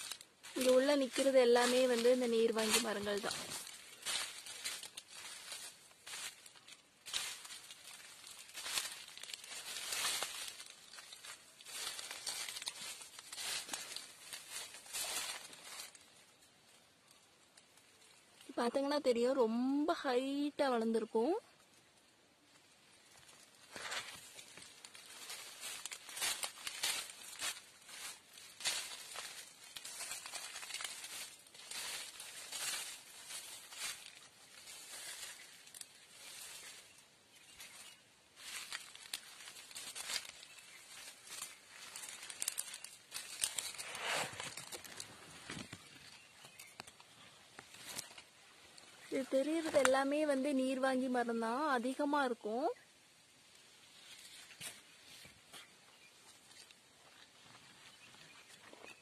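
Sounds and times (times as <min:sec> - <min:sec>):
leaves rustling and crinkling: 0:00.0 - 0:59.0.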